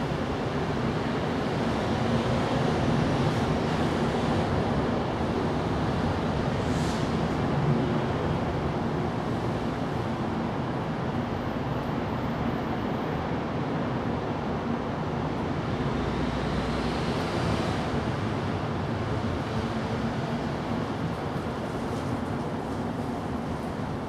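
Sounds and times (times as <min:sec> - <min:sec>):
outdoor background rush: 0:00.0 - 0:24.0.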